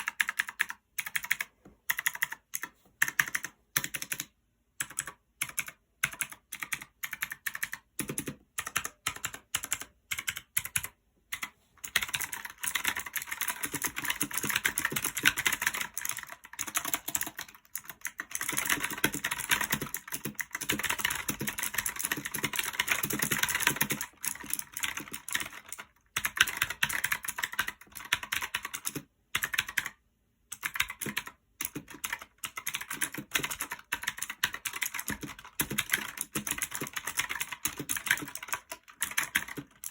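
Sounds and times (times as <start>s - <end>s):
typing on clicky mechanical keyboard: 0.0s - 39.9s.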